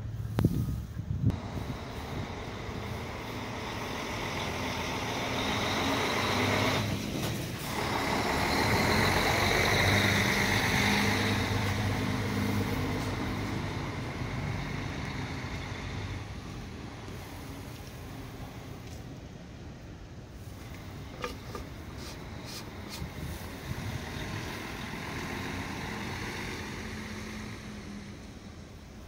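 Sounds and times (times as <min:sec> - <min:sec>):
heavy truck engine rumbling: 0:00.0 - 0:29.0.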